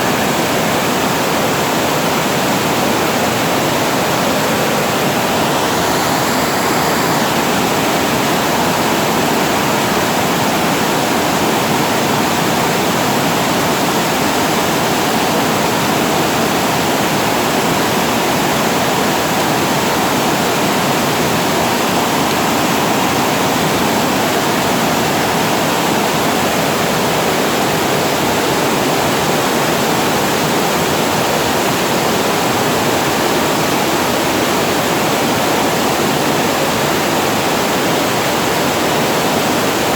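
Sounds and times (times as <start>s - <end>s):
water rushing over weir: 0.0s - 39.9s.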